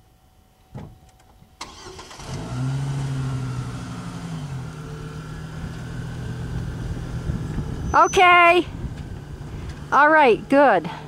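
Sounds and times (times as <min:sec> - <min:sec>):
pickup truck engine running: 0:01.6 - 0:11.0.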